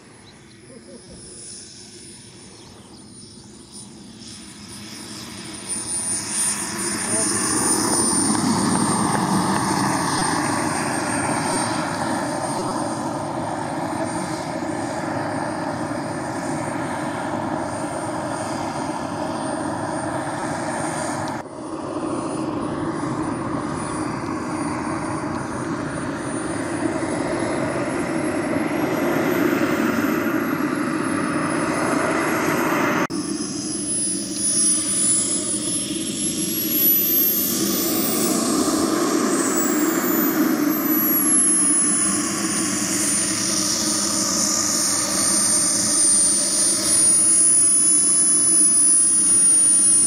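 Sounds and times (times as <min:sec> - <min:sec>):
model jet engine whine: 0:00.0 - 0:50.0.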